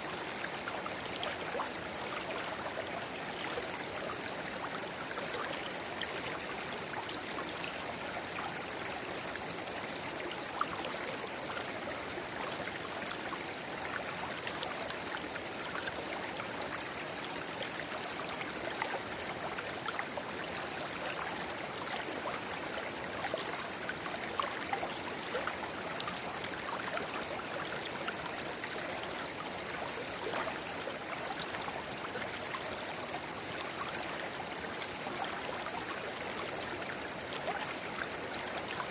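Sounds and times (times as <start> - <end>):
river babbling: 0.1 - 38.9.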